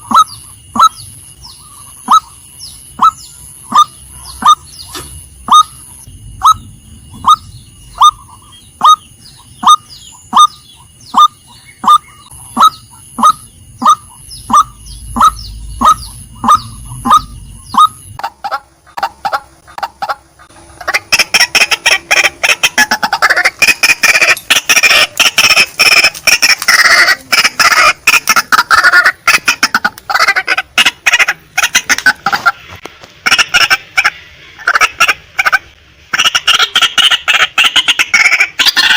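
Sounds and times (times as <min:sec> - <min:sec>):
waterhen calling: 0:00.0 - 0:06.6, 0:07.2 - 0:38.9.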